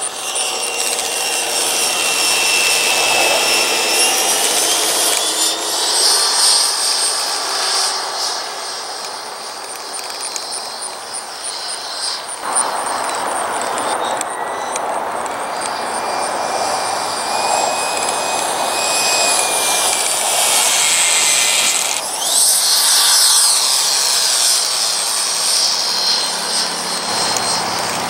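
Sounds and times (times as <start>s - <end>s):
model jet engine whine passing: 0.0s - 28.0s.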